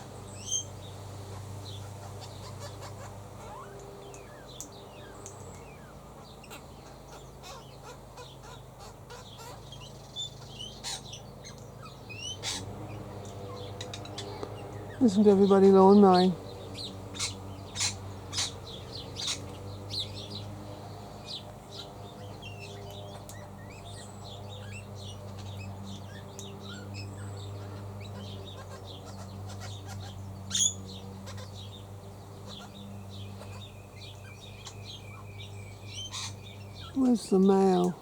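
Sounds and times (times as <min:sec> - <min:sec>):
bird chirps and calls: 0:00.0 - 0:38.0
distant lawn mowers droning: 0:00.0 - 0:38.0.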